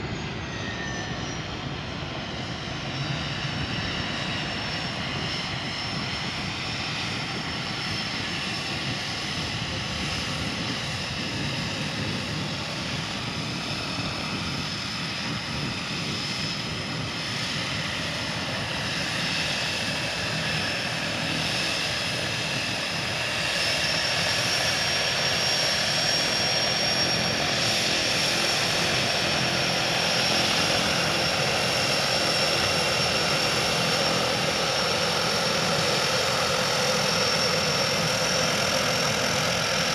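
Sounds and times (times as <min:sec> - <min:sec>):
floatplane engine and propeller whine: 0:00.0 - 0:39.9.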